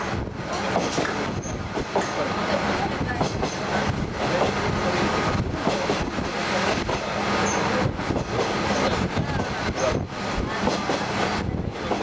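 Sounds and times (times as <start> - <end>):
railcar engine hum: 0.0 - 12.0
track knocks and rattles: 0.0 - 12.0
wheels rumbling on rail: 0.0 - 12.0.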